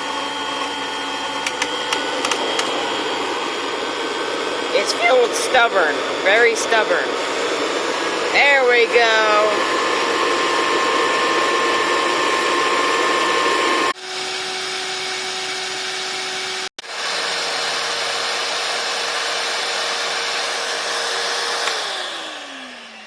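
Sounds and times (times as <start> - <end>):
vacuum cleaner motor whining: 0.0 - 23.0.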